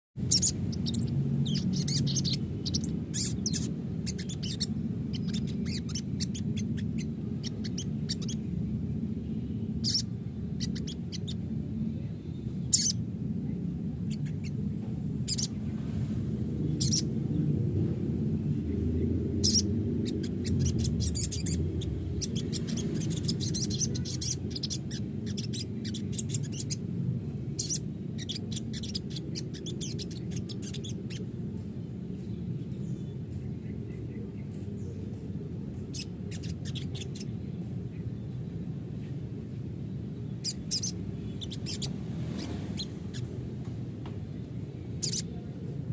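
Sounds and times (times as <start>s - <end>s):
bird chirping: 0.2s - 15.9s, 16.6s - 17.9s, 18.7s - 43.6s, 44.5s - 45.6s
steady low hum: 0.2s - 45.9s.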